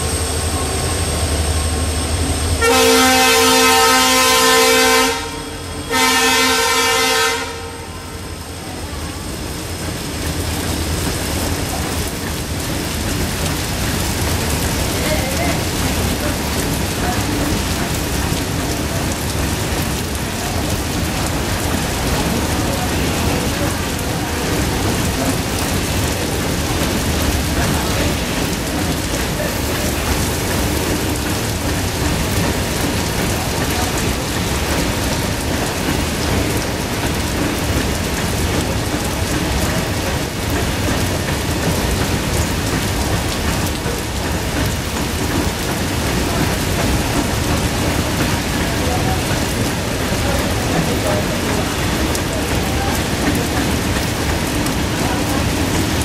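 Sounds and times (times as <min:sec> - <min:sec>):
heavy rain: 0:00.0 - 0:56.0
waterfall spray: 0:02.6 - 0:56.0.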